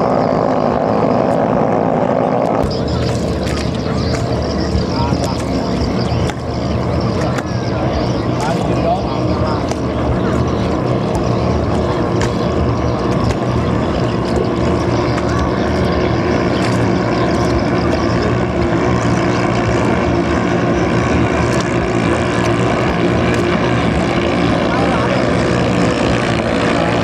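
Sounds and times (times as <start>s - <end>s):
racing boat engines droning: 0.0s - 27.0s.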